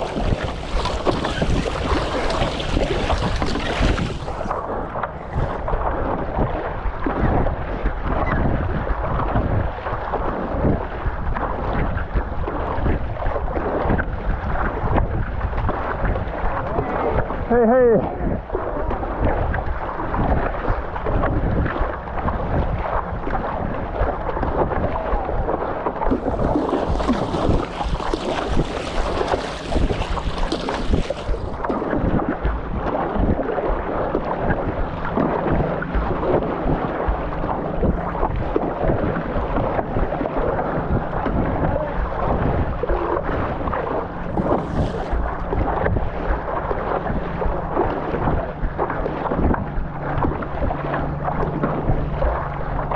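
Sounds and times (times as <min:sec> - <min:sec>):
choppy sea water sloshing: 0:00.0 - 0:52.9
wind buffeting microphone: 0:00.0 - 0:52.9.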